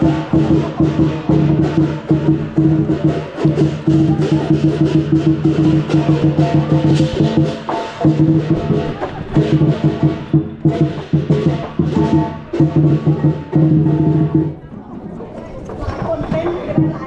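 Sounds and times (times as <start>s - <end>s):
cymbals clashing: 0.0s - 14.5s
big drum fast rolls: 0.0s - 14.6s.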